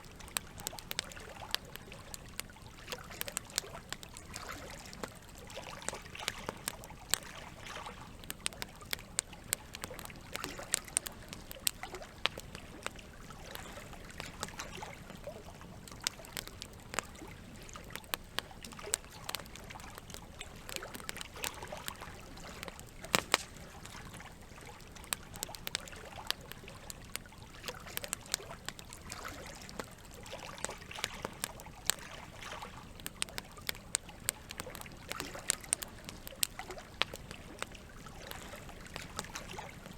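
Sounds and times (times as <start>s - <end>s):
campfire crackling and popping: 0.0s - 39.9s
running water trickling: 0.0s - 39.9s.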